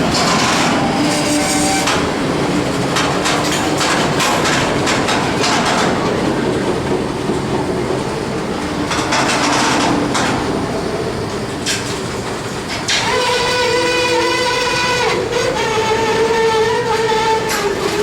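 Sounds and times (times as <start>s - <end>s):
freight train rumble: 0.0s - 18.0s
train wheels clacking on rail joints: 0.0s - 18.0s.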